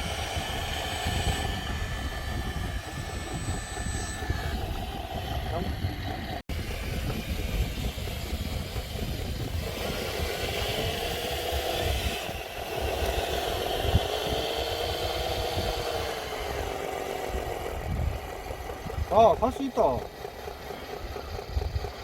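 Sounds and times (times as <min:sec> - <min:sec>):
toy truck motor whining: 0:00.0 - 0:22.0.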